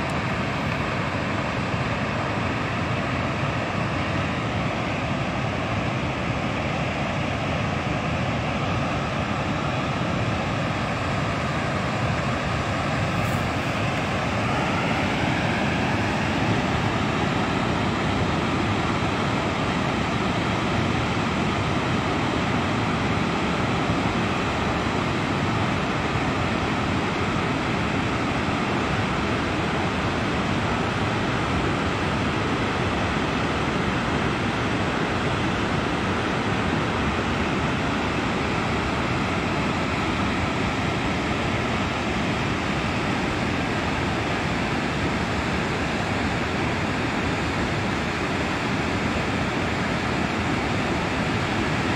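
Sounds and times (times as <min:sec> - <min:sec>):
floodwater rushing down rocky gully: 0:00.0 - 0:51.9.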